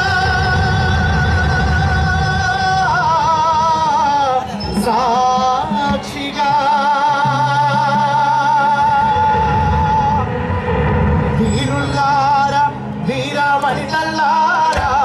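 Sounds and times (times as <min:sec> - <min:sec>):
man singing into a microphone: 0:00.0 - 0:10.6, 0:11.3 - 0:15.0.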